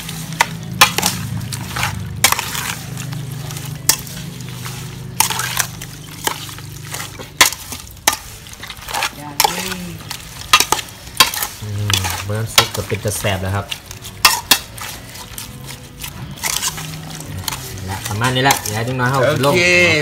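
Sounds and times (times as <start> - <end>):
metal ladle scraping pot: 0.0 - 20.0
rustle of food being mixed: 0.0 - 20.0.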